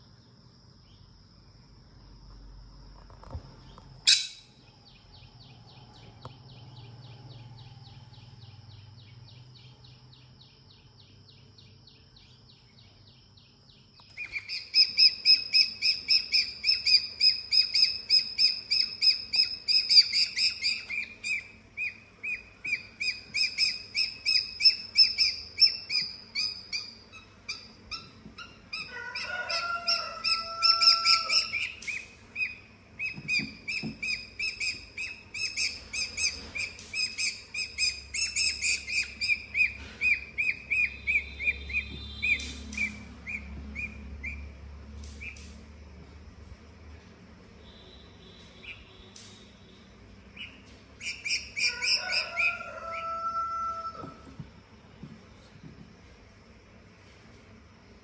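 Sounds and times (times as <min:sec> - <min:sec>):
rapid bird chirps: 0:04.0 - 0:45.6, 0:47.6 - 0:52.6.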